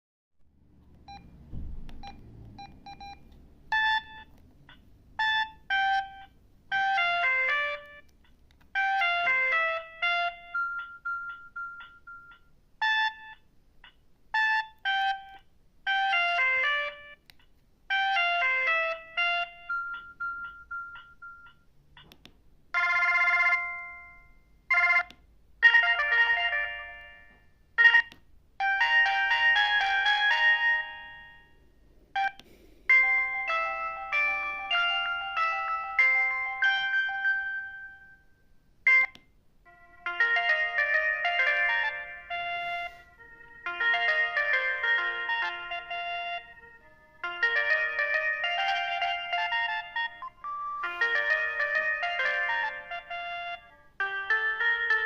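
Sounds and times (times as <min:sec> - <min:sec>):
mobile phone ringtone melody: 0:02.0 - 0:08.1, 0:08.7 - 0:17.2, 0:17.9 - 0:21.7, 0:22.8 - 0:55.0.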